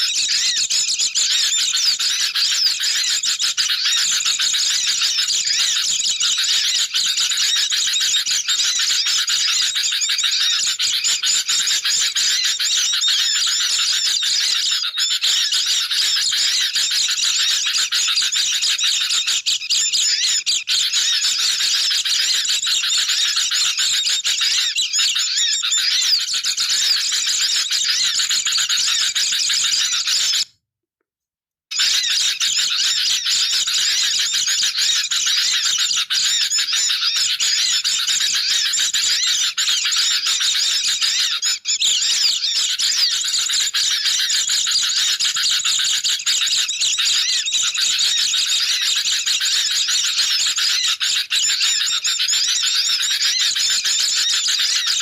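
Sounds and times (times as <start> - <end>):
white-eyes high twittering: 0.0 - 30.5, 31.7 - 55.0.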